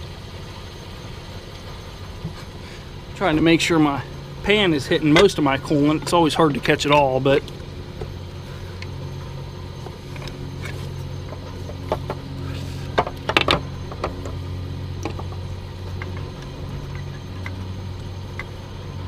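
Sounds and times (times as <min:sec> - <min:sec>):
engine parts clicking and clunking: 0:00.0 - 0:19.0
low steady hum: 0:00.0 - 0:19.0.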